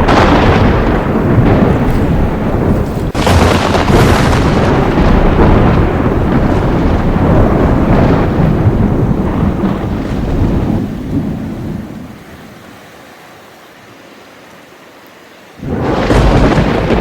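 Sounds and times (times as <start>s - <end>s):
thunder rumbling: 0.0s - 13.0s, 15.6s - 17.0s
rain falling: 0.0s - 17.0s.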